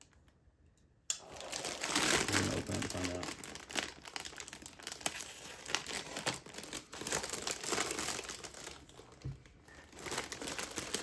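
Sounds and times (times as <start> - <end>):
plastic bag crinkling: 1.2 - 11.0.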